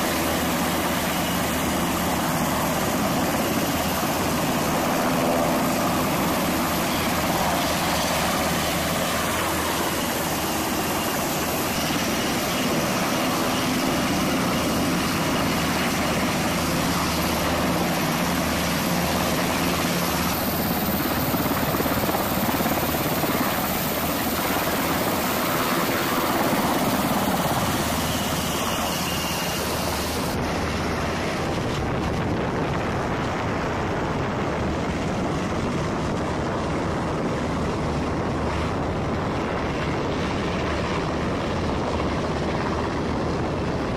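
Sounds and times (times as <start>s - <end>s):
helicopter rotor and turbine noise: 0.0s - 43.9s.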